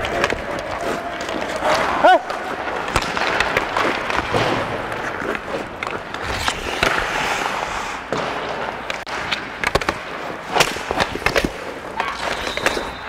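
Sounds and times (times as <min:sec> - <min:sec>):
skate blades scraping on ice: 0:00.0 - 0:13.0
sticks clacking on puck: 0:00.0 - 0:13.0.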